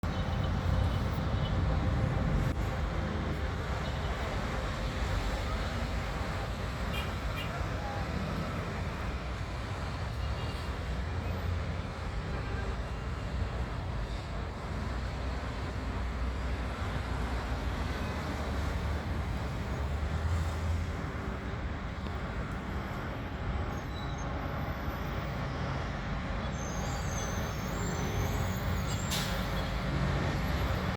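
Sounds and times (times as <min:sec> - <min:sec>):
city traffic rumble: 0:00.0 - 0:30.9.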